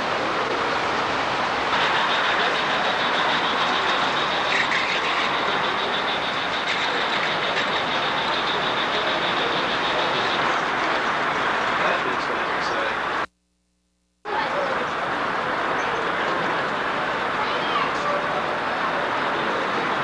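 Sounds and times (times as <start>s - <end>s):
model train wheels on rails: 0.0s - 13.3s, 14.3s - 20.0s.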